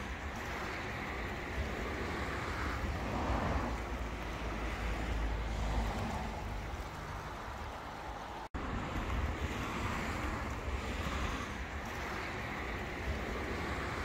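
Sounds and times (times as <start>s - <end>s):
wind blowing across microphone: 0.0s - 14.0s.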